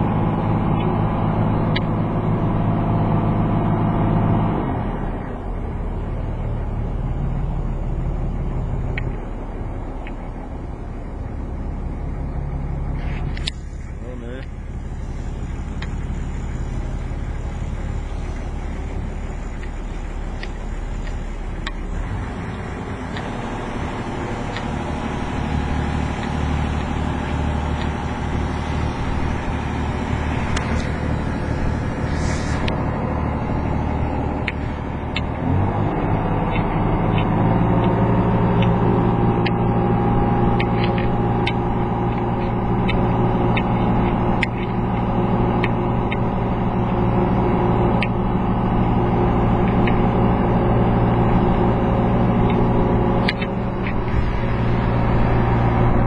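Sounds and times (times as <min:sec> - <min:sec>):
boat diesel engine running: 0:00.0 - 0:56.0.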